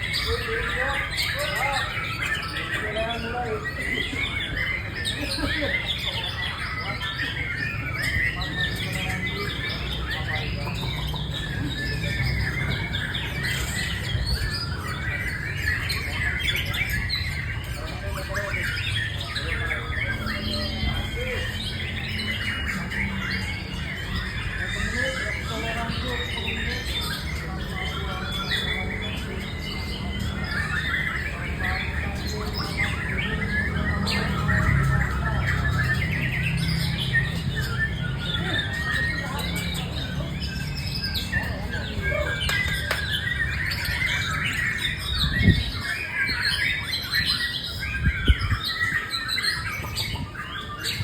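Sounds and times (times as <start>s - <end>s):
bird singing chirps and whistles: 0.0s - 51.0s.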